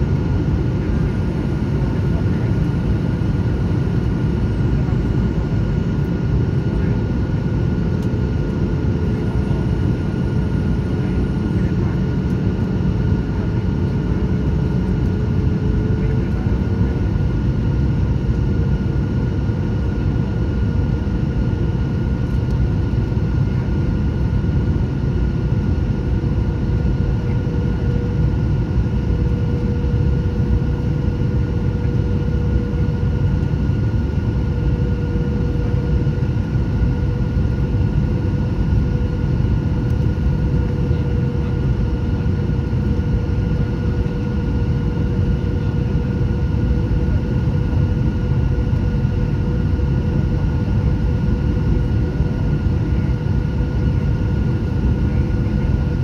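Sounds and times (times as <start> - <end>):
jet engines roaring in cabin: 0.0 - 56.0.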